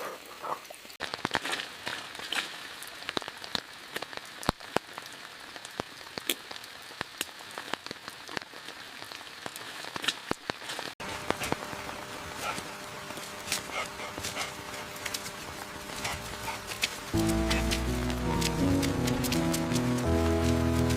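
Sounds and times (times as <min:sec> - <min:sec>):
steady rain: 0:00.0 - 0:20.9.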